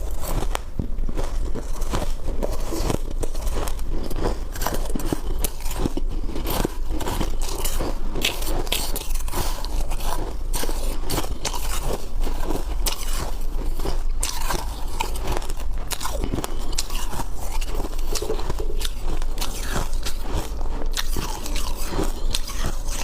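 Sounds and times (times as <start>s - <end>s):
ice crunching being chewed: 0.0s - 23.0s.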